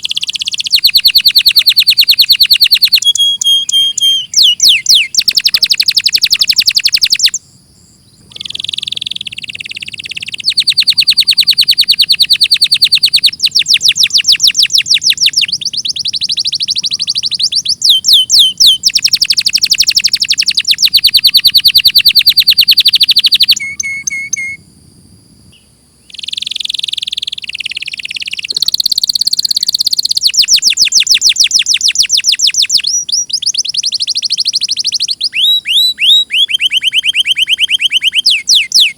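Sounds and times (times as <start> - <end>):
canary singing trills: 0.0 - 24.8, 25.4 - 38.9.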